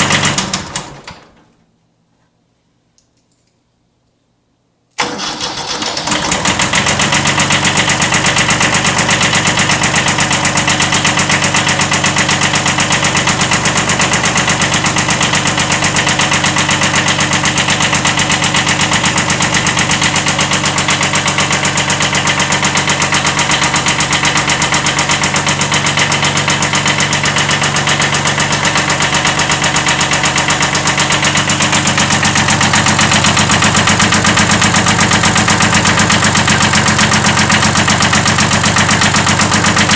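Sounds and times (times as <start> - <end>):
diesel tractor engine idling: 0.0 - 1.0, 5.0 - 39.9.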